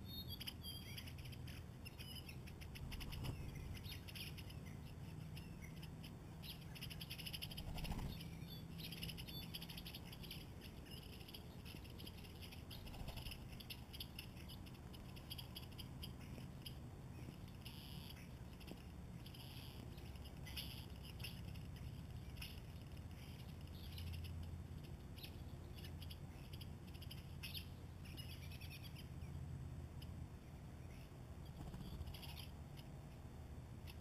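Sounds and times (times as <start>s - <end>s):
squeaky bird chirps: 0.0s - 29.2s, 30.8s - 33.0s, 33.8s - 34.0s
faint low rumble: 0.0s - 34.0s.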